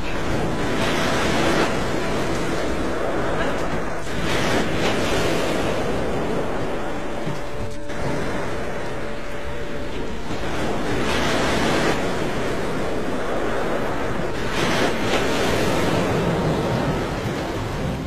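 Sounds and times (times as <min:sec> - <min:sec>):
water rushing in a whirlpool: 0:00.0 - 0:18.0.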